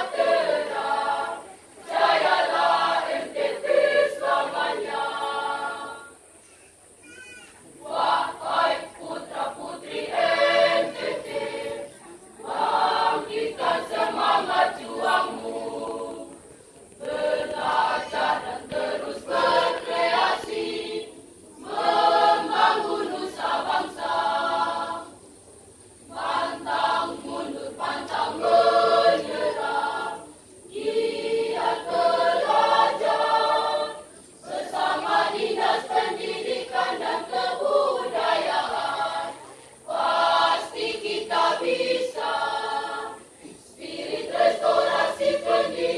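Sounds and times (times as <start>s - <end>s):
children's choir singing: 0.0s - 6.3s, 7.6s - 25.3s, 26.0s - 45.9s.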